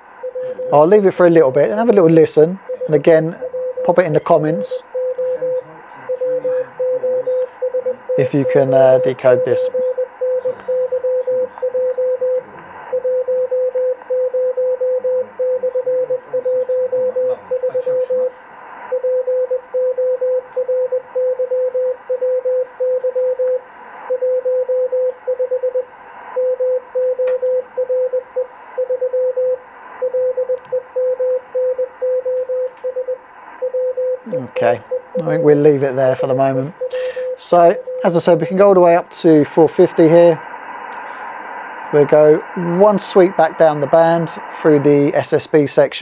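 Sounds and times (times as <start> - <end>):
receiver hiss: 0.0 - 46.0
morse code tone: 0.2 - 39.0.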